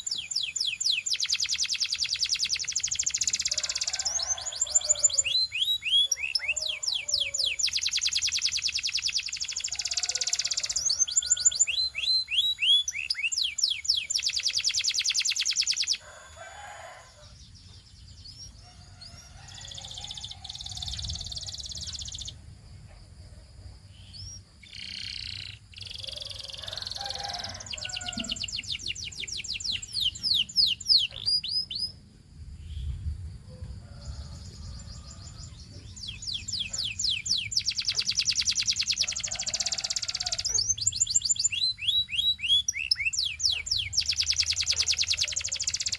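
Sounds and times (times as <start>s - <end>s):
canary singing trills: 0.0s - 22.4s, 24.0s - 32.0s, 34.3s - 45.9s.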